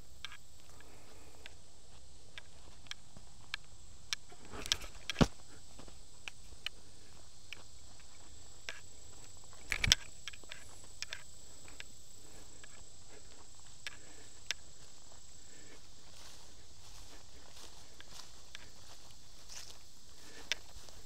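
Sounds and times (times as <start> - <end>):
faint high whine: 0.0 - 21.0
steady hiss: 0.0 - 21.0
footsteps through grass: 0.6 - 21.0.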